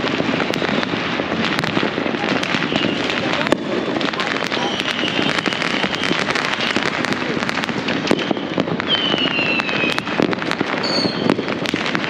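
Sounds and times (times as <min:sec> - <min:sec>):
firecrackers banging and crackling: 0:00.0 - 0:12.0
whistling firework: 0:00.0 - 0:12.0.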